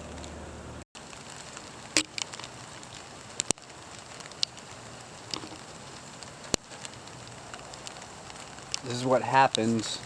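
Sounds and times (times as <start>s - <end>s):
rain falling steadily: 0.0s - 10.0s.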